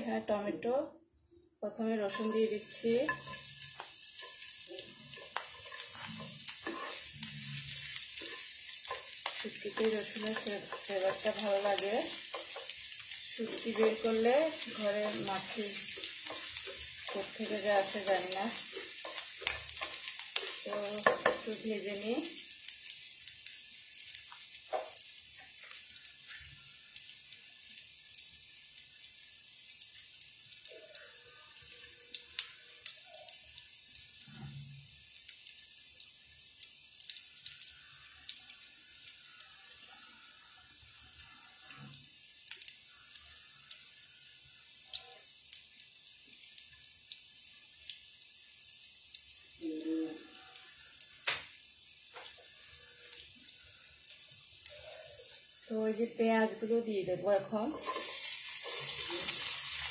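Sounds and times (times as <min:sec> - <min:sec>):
garlic sizzling in oil: 0:01.8 - 0:59.9
small crackles: 0:02.2 - 0:44.0, 0:44.6 - 0:56.0.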